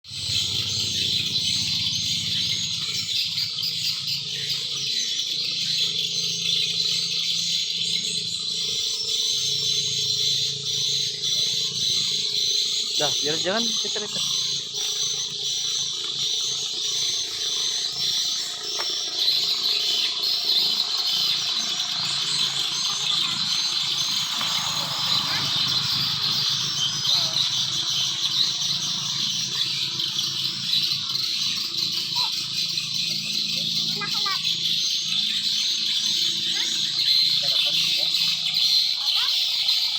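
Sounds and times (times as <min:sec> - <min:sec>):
birds chirping: 0:00.1 - 0:39.9
insects chirping: 0:00.1 - 0:39.9.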